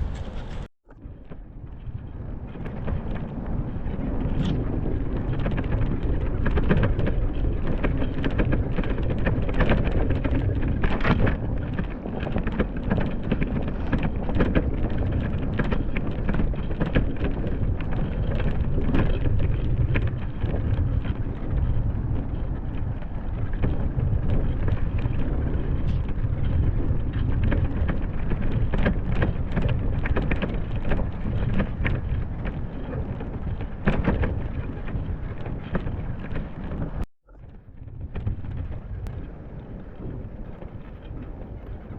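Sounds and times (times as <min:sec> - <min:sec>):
crackles and clicks: 0:00.0 - 0:41.9
wind rumbling on microphone: 0:00.0 - 0:41.9.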